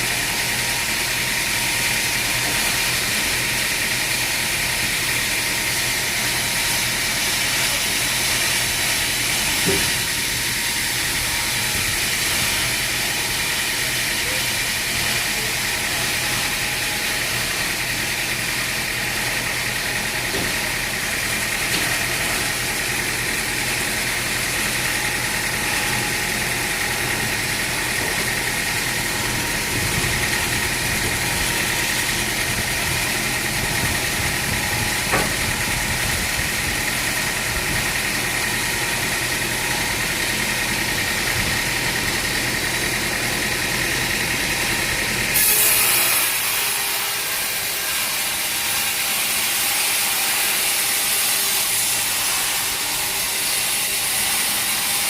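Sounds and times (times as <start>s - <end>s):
high machine whine: 0.0s - 50.6s
sawmill machinery running: 0.0s - 55.0s.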